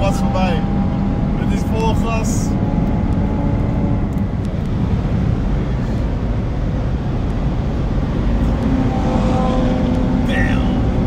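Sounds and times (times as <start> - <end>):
low engine drone: 0.0 - 11.0
road tyre and wind noise: 0.0 - 11.0.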